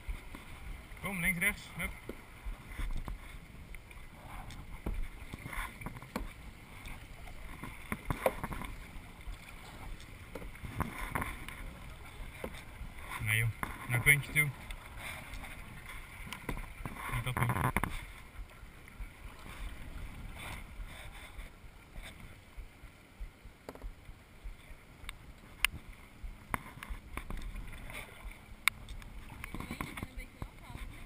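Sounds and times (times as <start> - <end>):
water splashing from paddle: 0.0 - 31.0.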